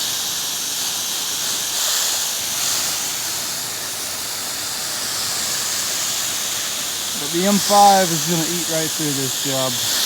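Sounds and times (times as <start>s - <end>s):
pressure washer spray hissing: 0.0s - 10.0s.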